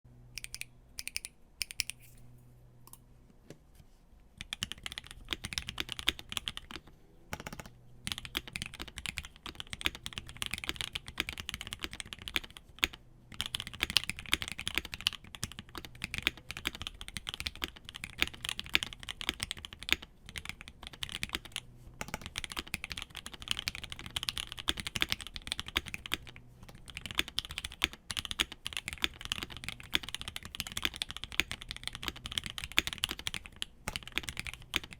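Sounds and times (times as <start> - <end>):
mechanical keyboard typing: 0.4 - 2.1, 4.4 - 34.9.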